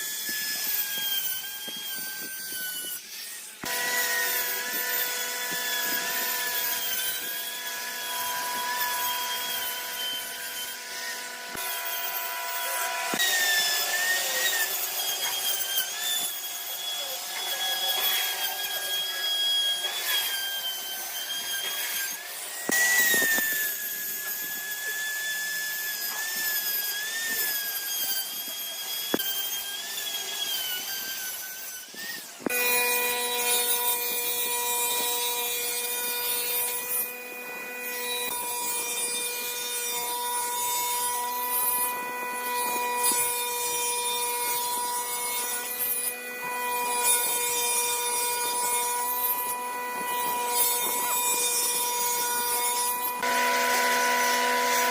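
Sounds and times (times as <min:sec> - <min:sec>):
power tool cutting wood: 0:00.0 - 0:54.9.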